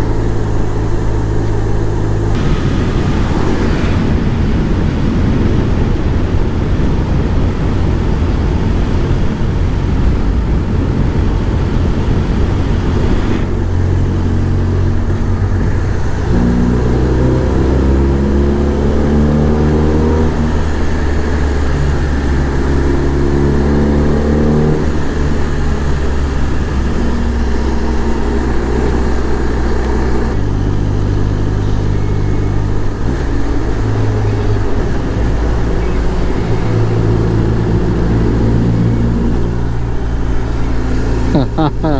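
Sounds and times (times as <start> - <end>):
wind noise on microphone: 0.0 - 41.8
motorcycle engine accelerating: 0.0 - 41.9.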